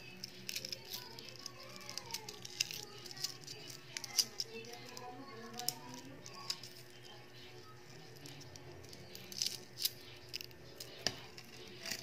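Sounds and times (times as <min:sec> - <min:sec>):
eggshell crackling: 0:00.0 - 0:12.0.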